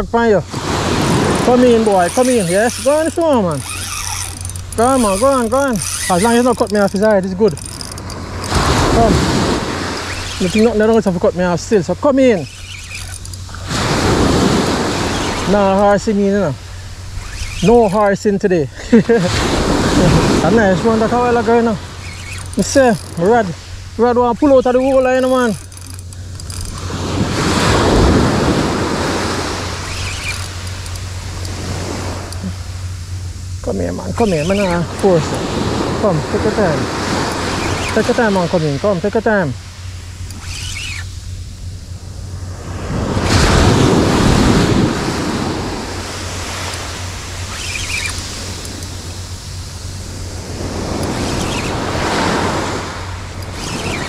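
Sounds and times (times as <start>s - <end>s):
wind on microphone: 0.0s - 16.0s, 19.2s - 38.6s, 40.3s - 54.0s
waves on pebble beach: 0.0s - 33.0s, 33.6s - 41.3s, 41.9s - 54.0s.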